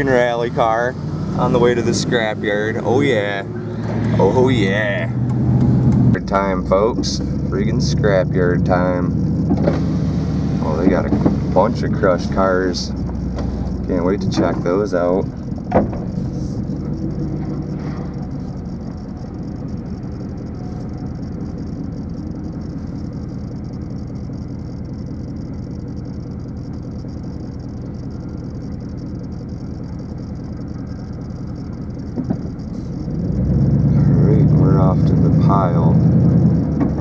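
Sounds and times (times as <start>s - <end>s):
road noise: 0.0s - 37.0s
truck engine rumbling: 0.0s - 37.0s.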